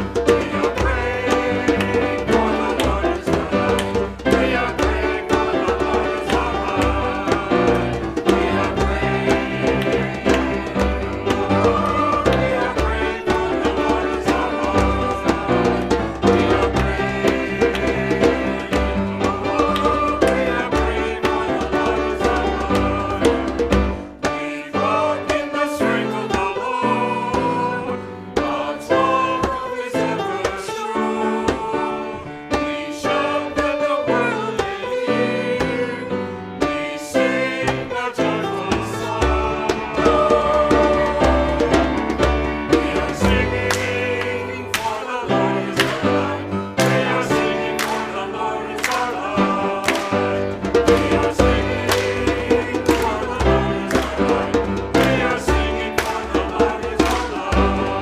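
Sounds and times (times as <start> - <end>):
hymn sung with instruments: 0.0 - 58.0.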